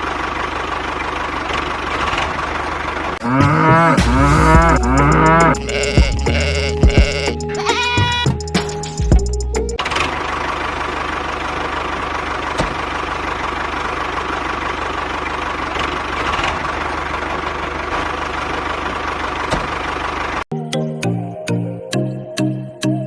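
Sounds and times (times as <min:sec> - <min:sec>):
small engine chugging: 0:00.0 - 0:08.3, 0:09.0 - 0:20.4.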